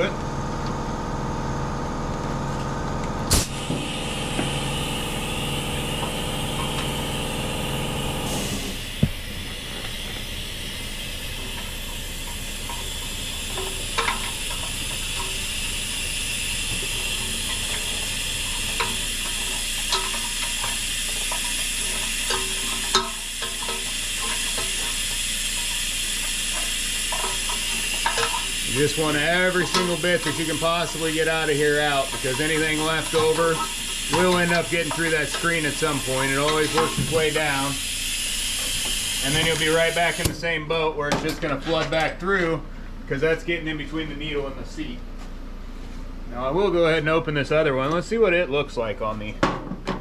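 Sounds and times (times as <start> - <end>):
fuel extractor hissing: 0.0 - 40.7
steady hum: 0.0 - 49.4.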